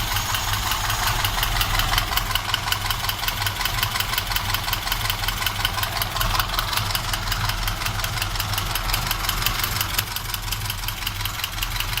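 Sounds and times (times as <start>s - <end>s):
car engine idling with knock: 0.0s - 12.0s.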